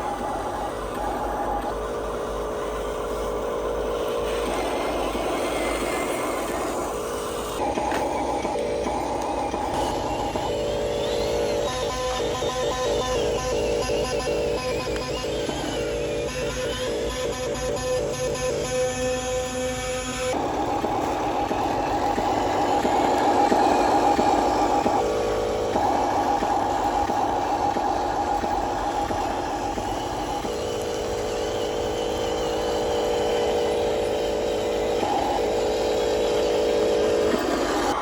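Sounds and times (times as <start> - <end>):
toy electric motors whining: 0.0 - 38.0.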